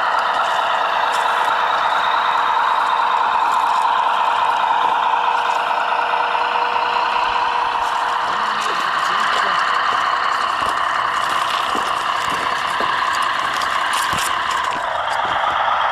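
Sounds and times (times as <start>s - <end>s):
toy truck motor whirring: 0.0s - 15.9s.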